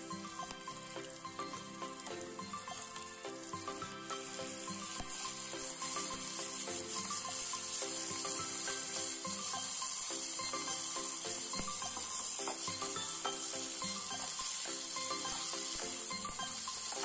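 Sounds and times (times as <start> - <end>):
background music: 0.0 - 17.0
rice sizzling in hot oil: 0.0 - 17.0.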